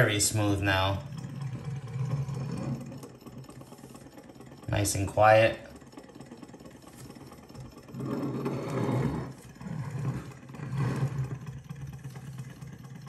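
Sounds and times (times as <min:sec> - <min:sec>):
model engine mechanical whir: 0:00.0 - 0:13.0.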